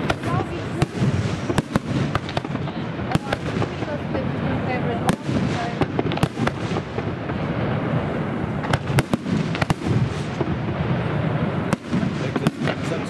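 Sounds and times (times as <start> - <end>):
firework bangs: 0.0 - 13.0
rumble of firework bursts: 0.0 - 13.0.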